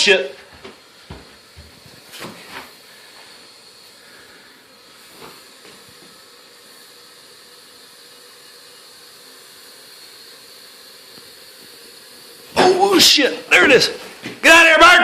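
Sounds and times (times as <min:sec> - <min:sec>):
faint steady hiss: 0:00.0 - 0:14.9.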